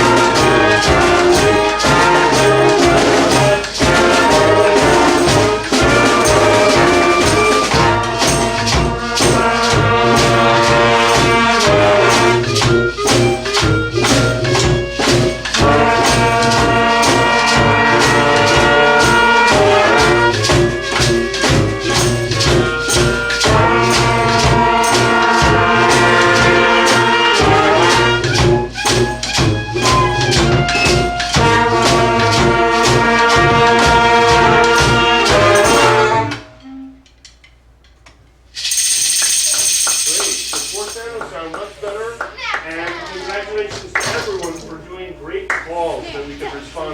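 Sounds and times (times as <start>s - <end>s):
brass and saxophone band with drums: 0.0s - 37.2s, 39.6s - 44.6s.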